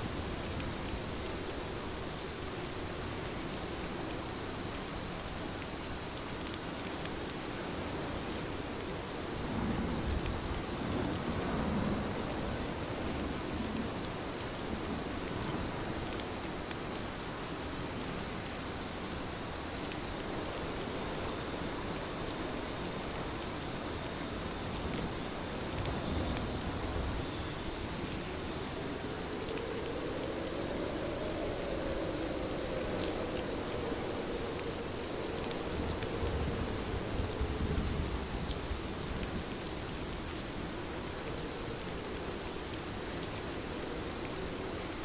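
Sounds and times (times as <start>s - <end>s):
faint raindrop ticks: 0.0s - 45.0s
heavy rain hissing: 7.4s - 45.0s.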